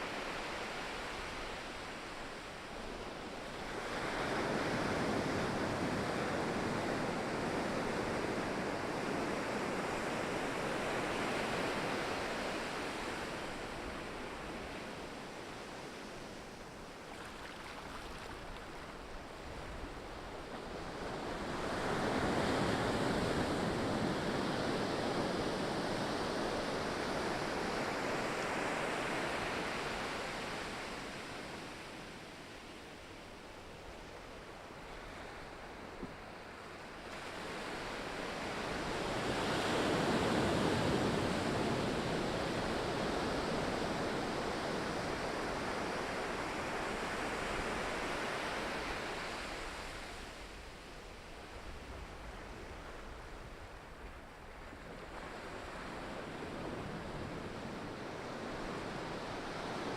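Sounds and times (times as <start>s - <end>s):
ocean waves on shore: 0.0s - 59.9s.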